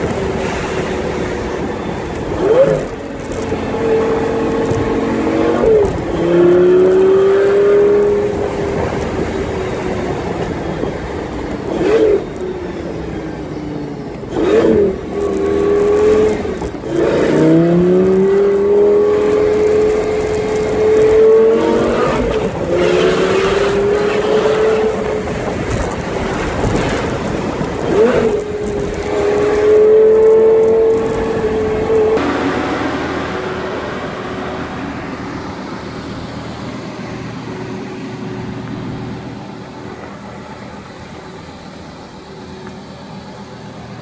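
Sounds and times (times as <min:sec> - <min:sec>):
car engine from inside cabin: 0:00.0 - 0:44.0.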